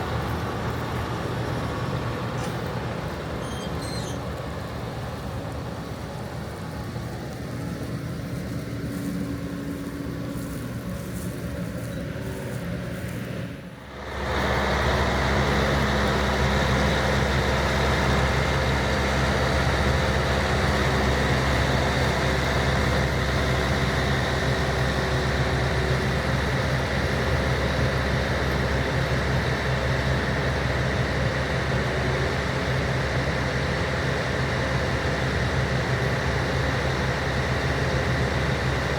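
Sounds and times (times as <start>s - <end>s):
combine harvester running: 0.0s - 38.9s
deep humming drone: 0.0s - 38.9s.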